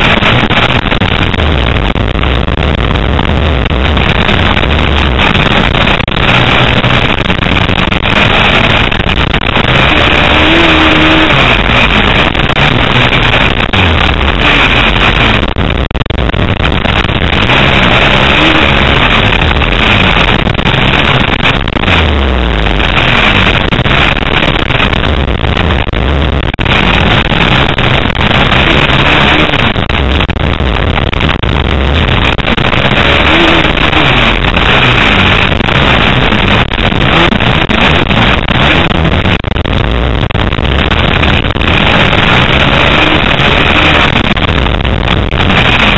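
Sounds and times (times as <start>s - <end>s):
dense rushing noise: 0.0s - 45.9s
dirt bike engine revving: 0.0s - 45.9s.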